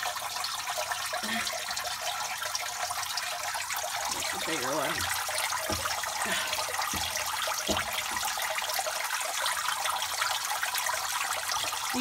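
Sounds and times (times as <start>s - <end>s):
filter water running: 0.0s - 12.0s
fountain splashing into water: 0.0s - 12.0s.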